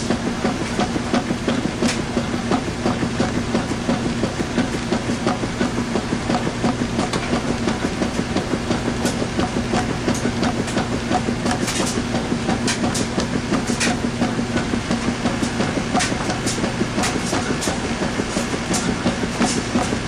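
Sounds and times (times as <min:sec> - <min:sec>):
rhythmic thumping: 0:00.0 - 0:20.0
washing machine motor hum: 0:00.0 - 0:20.0.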